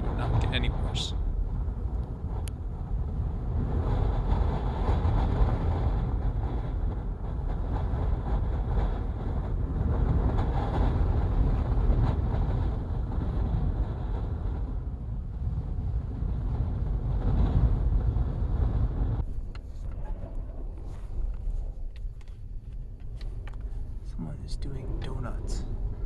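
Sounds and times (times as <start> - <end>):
gale-force wind gusting: 0.0 - 26.0.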